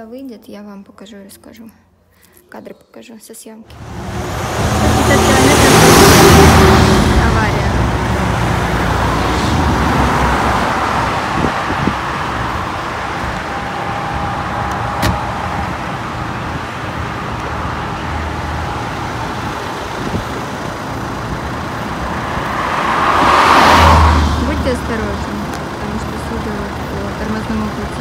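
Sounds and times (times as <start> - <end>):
road traffic noise: 3.7 - 28.0.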